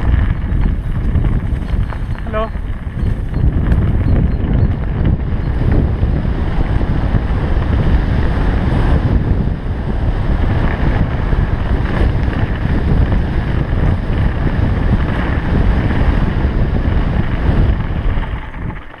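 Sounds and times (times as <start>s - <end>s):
tyres rolling over dirt and gravel: 0.0s - 19.0s
wind buffeting microphone: 0.0s - 19.0s.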